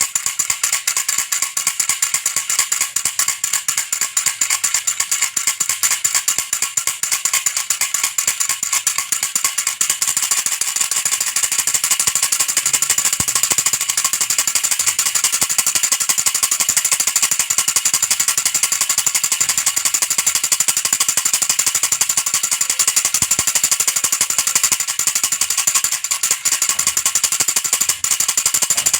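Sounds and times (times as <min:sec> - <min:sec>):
baby rattle shaken fast: 0:00.0 - 0:28.9.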